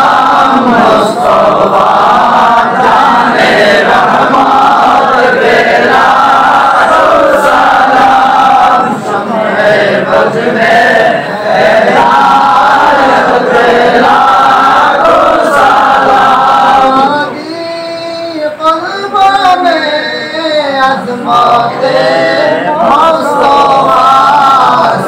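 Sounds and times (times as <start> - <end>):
men chanting together: 0.0 - 17.4, 19.7 - 25.0.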